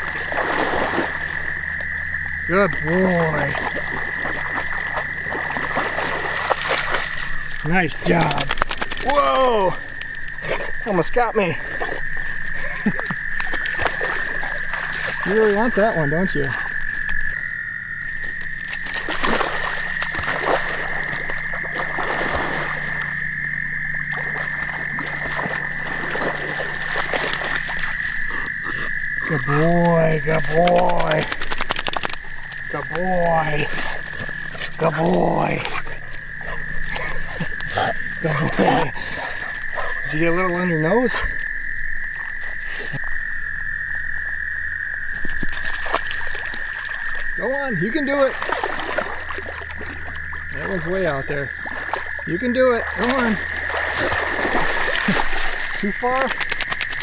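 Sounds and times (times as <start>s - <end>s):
dog splashing and swimming: 0.0s - 43.2s, 44.0s - 57.0s
frogs trilling: 0.0s - 57.0s.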